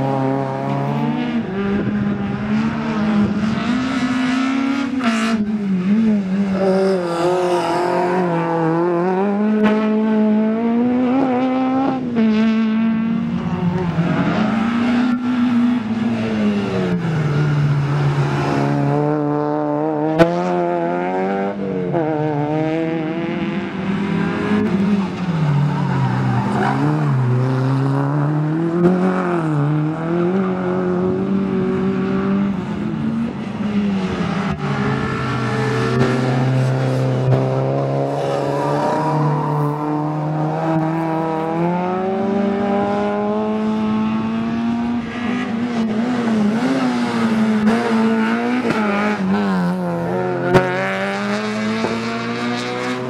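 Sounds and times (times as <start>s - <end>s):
race car engines revving: 0.0s - 53.0s.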